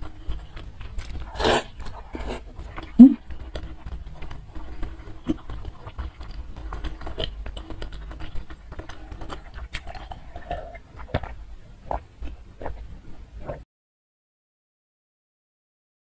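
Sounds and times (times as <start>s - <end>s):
close chewing with wet mouth clicks: 0.0s - 13.6s
person sipping and swallowing water: 0.0s - 13.6s.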